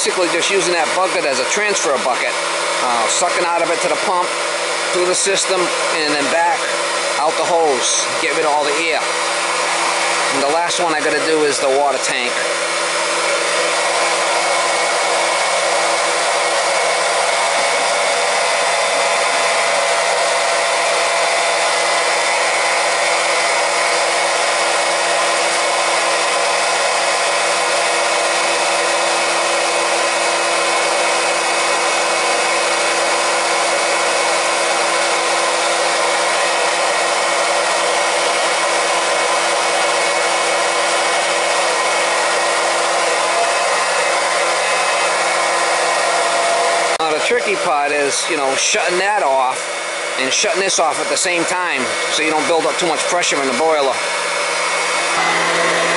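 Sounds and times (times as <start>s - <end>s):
electric pump humming and hissing: 0.0s - 55.9s.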